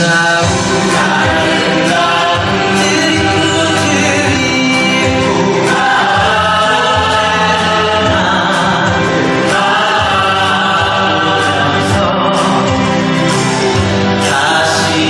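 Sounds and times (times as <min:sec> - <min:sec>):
chorus singing with instruments: 0:00.0 - 0:15.0.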